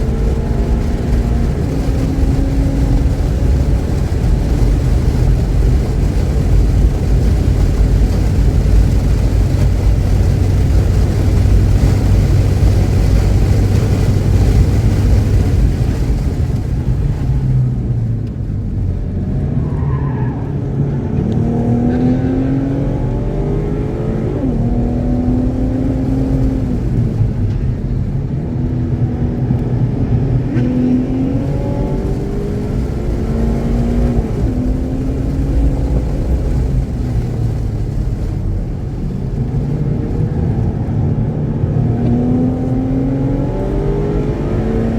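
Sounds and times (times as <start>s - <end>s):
race car engine: 0.0s - 44.9s
wind and road noise: 0.0s - 44.9s.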